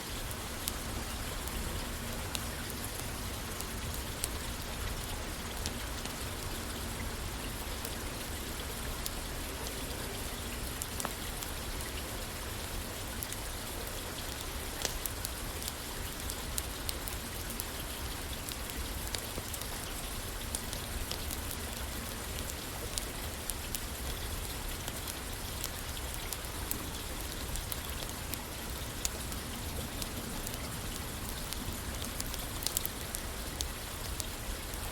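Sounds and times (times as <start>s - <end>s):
rain pattering on a roof: 0.0s - 34.9s.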